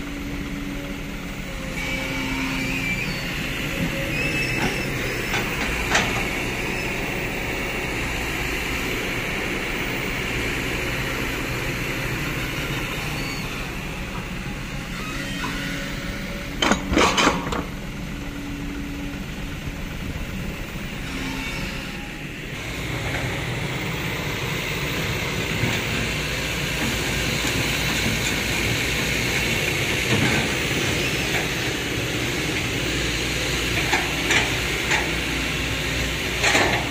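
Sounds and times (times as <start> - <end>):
dump truck diesel engine: 0.0 - 36.9
excavator engine running: 0.0 - 36.9.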